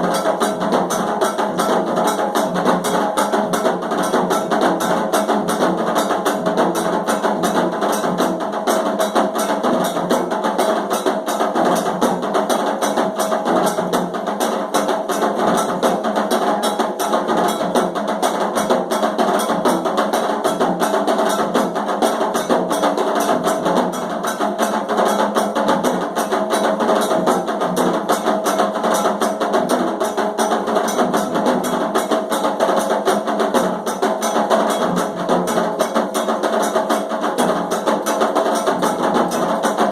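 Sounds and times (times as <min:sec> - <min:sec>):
hand drums and percussion: 0:00.0 - 0:39.9.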